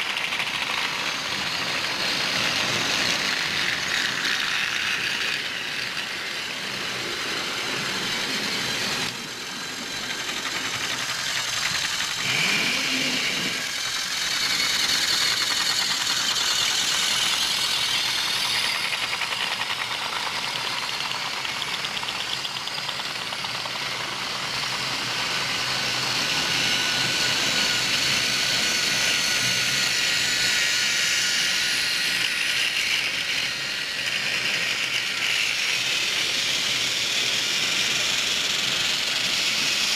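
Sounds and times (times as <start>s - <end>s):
toy train motors whirring: 0.0s - 39.9s
wheels rolling over plastic track: 0.0s - 39.9s.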